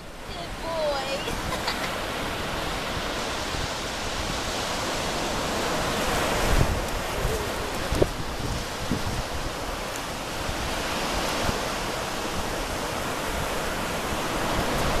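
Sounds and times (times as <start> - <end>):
ocean waves breaking on beach: 0.0 - 15.0
wind rumbling on microphone: 0.0 - 15.0.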